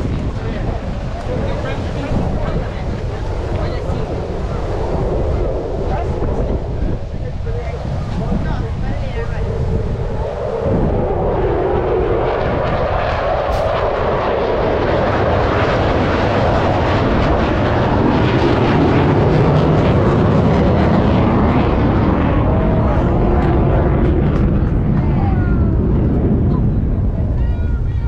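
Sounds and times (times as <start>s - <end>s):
jet engine in flight: 0.0s - 28.0s.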